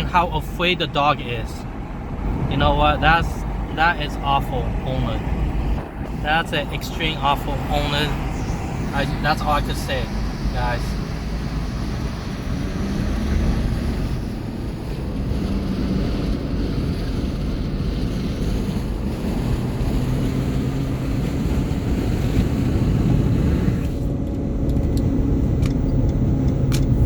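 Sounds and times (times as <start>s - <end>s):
low engine hum: 0.0s - 27.0s
road and wind noise inside car: 0.0s - 27.0s.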